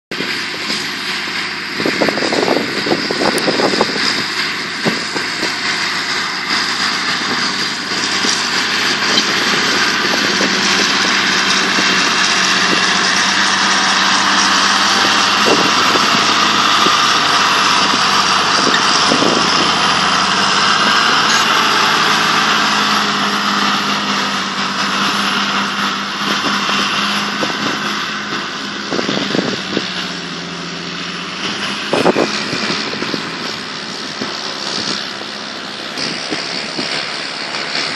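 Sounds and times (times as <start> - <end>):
tractor diesel engine under load: 0.1 - 37.9.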